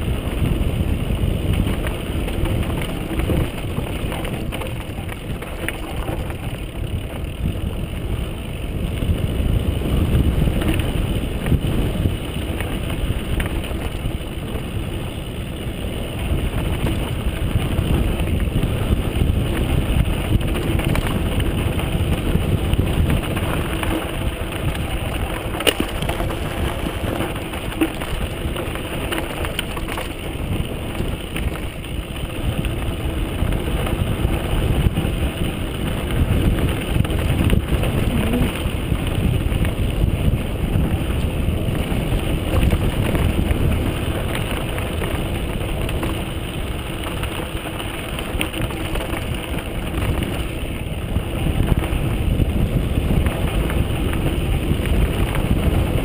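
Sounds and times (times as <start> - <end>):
bike rattling: 0.0 - 56.0
tyres rumbling on gravel: 0.0 - 56.0
wind buffeting microphone: 0.0 - 56.0.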